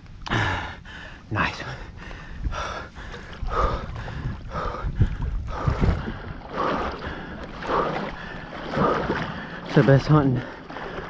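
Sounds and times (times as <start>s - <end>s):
water sloshing around wading legs: 2.0s - 11.0s.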